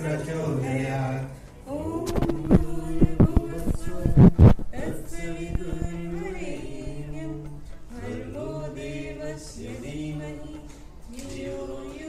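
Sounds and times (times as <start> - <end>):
voices singing a devotional chant: 0.0 - 12.0.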